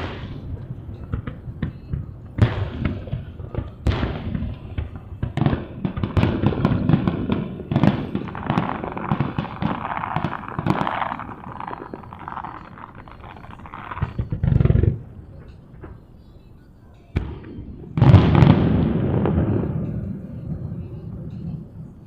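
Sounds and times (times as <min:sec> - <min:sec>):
fireworks bangs and booms: 0:00.0 - 0:22.0
fireworks crackling hiss: 0:00.0 - 0:22.0.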